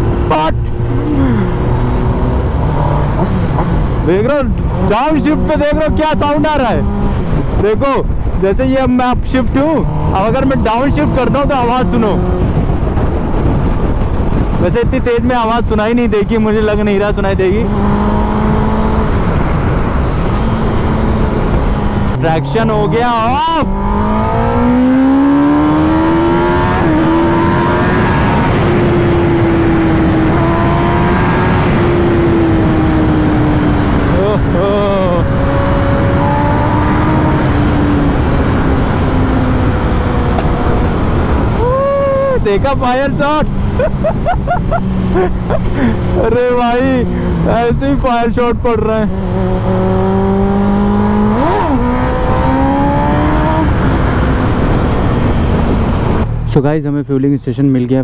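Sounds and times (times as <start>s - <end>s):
motorcycle engine accelerating: 0.0s - 8.5s, 9.5s - 56.6s
wind rush on microphone: 0.0s - 56.5s.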